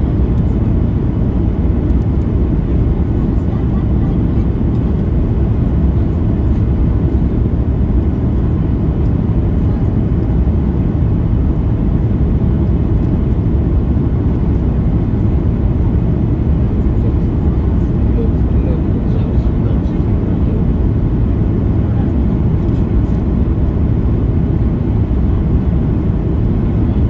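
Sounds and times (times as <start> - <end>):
jet engine rumble in cabin: 0.0 - 27.0.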